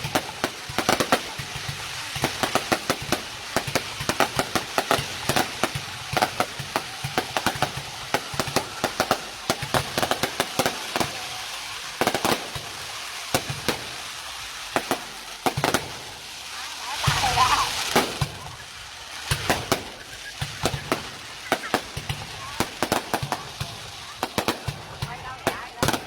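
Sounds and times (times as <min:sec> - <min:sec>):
fireworks bangs and cracks: 0:00.0 - 0:26.0
steady hiss: 0:00.0 - 0:26.0.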